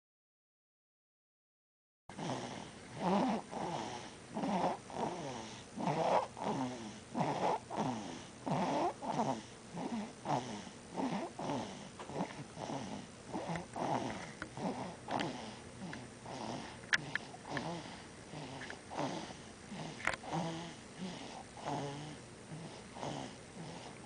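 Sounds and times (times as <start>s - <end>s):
baby snoring: 2.1s - 24.0s.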